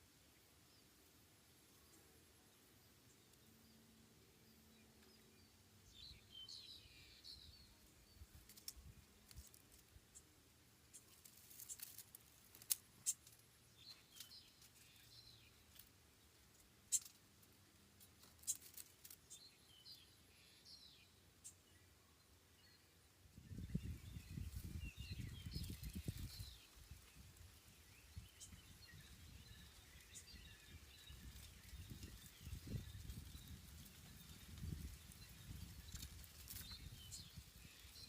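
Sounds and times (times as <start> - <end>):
faint bird chirping: 0.0 - 38.0.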